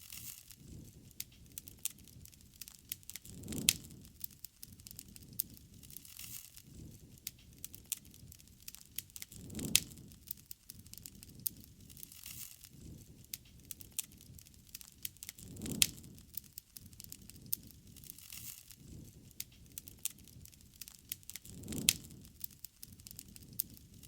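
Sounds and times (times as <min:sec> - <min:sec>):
campfire crackling and popping: 0:00.0 - 0:24.0
low rumble of flames: 0:00.0 - 0:24.0.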